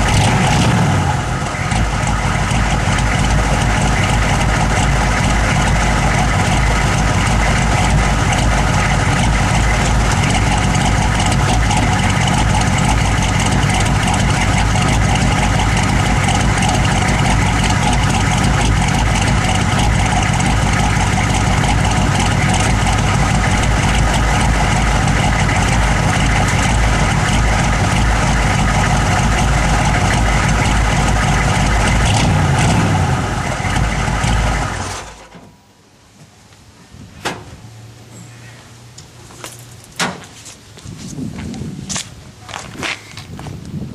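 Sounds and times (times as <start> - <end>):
engine idling roughly: 0.0 - 35.2.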